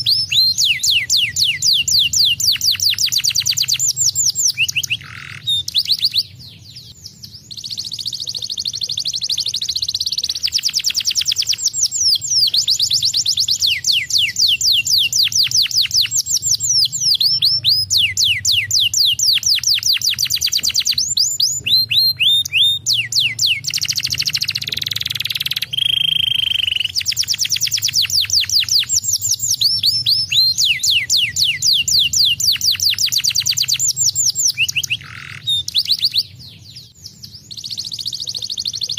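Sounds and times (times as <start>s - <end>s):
canary singing trills: 0.0s - 38.9s
faint low hum: 0.0s - 38.9s.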